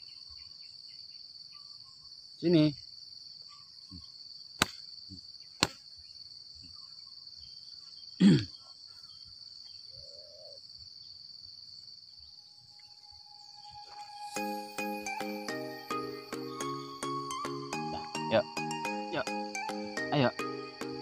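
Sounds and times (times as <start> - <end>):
insect chirring: 0.0 - 19.4.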